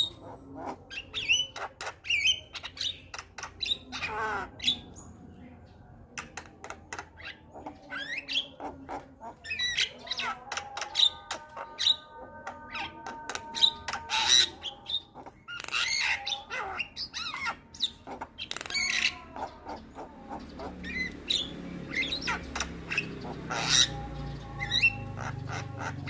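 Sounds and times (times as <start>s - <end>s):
myna bird singing: 0.0s - 26.0s.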